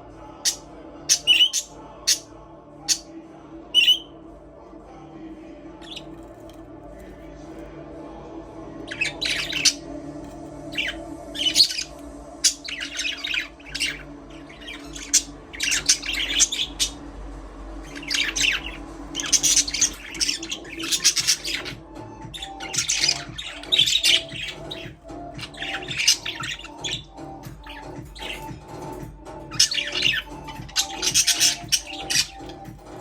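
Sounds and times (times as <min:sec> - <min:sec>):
budgerigars chirping and chattering: 0:00.4 - 0:03.1, 0:03.7 - 0:04.1, 0:05.8 - 0:07.7, 0:08.8 - 0:33.0.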